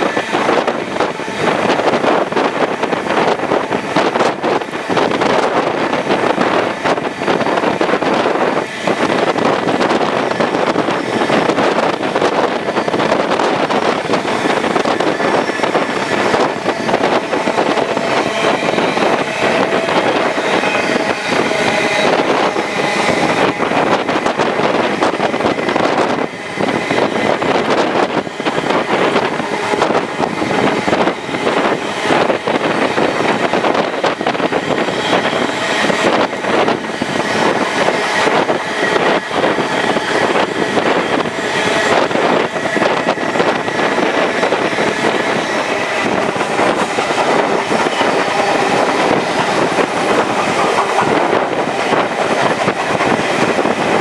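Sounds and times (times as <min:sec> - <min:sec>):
train carriages running on rails: 0:00.0 - 0:54.0
wind rushing past microphone: 0:00.0 - 0:54.0.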